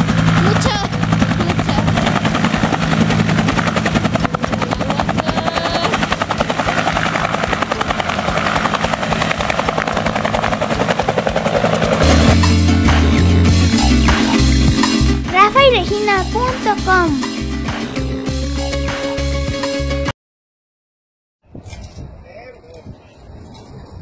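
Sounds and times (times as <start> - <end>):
helicopter rotor chopping: 0.0 - 19.3.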